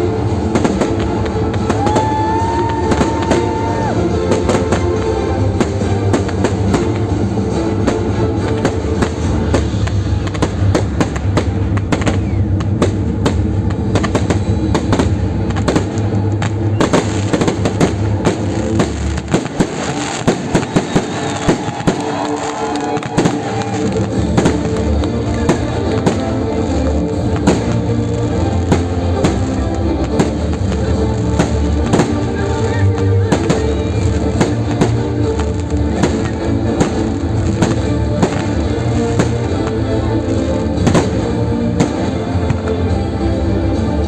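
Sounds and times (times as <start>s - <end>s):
fireworks cracking and banging: 0.0s - 44.0s.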